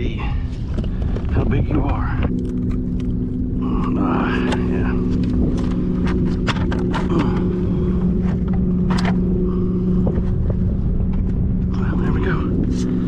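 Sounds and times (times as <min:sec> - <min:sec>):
steady low hum: 0:00.0 - 0:13.0
wind buffeting microphone: 0:00.0 - 0:13.0
clicks and knocks handling fish: 0:00.6 - 0:11.4.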